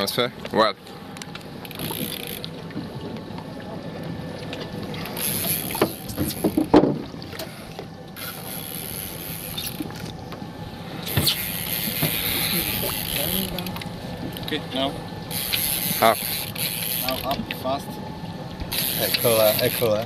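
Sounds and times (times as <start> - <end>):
water sloshing against hull: 0.0 - 20.0.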